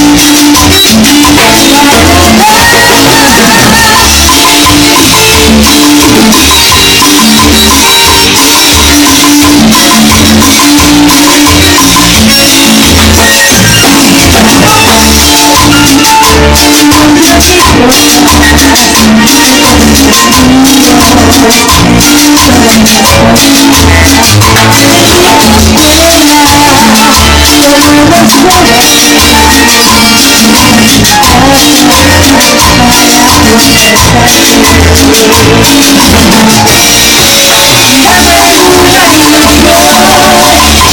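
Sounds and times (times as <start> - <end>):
latin dance music: 0.0 - 40.9
maracas shaking: 0.0 - 40.9
marimba-like melody: 0.0 - 40.9.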